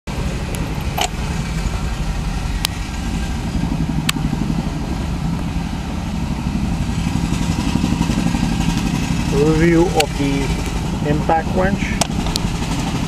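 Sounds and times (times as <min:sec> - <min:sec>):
engine idling: 0:00.1 - 0:13.0.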